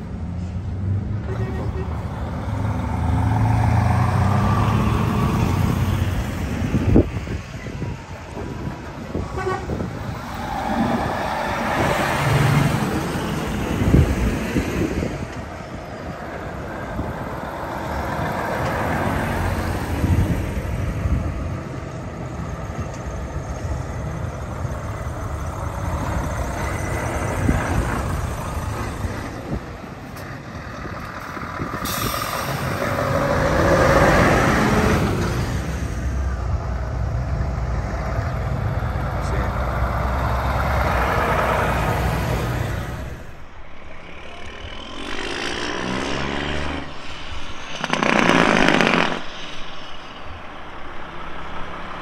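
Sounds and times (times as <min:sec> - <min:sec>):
lorries driving past: 0:00.0 - 0:52.0.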